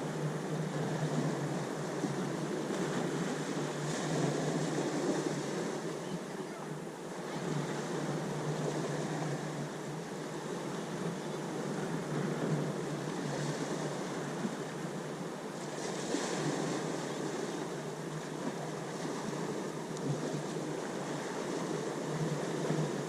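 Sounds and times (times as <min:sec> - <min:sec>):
ocean waves washing ashore: 0:00.0 - 0:23.0.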